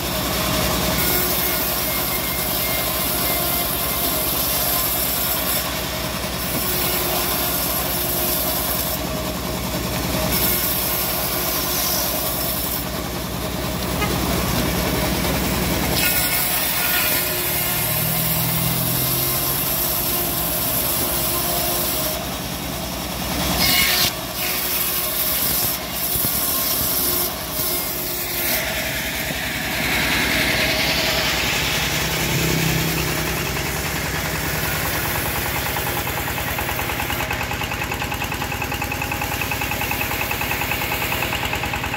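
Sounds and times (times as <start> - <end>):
bandsaw mill engine chugging: 0.0 - 41.9.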